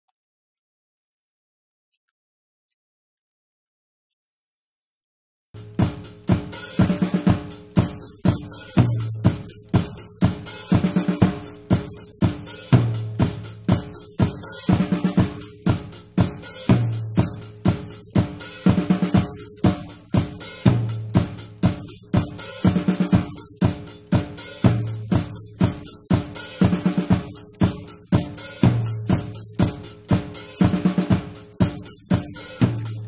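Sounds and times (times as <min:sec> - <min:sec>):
drum kit groove: 0:05.6 - 0:33.0.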